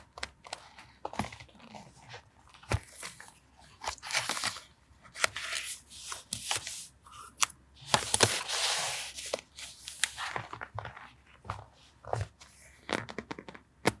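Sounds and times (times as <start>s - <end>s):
paper rustling and crinkling: 0.0s - 13.3s.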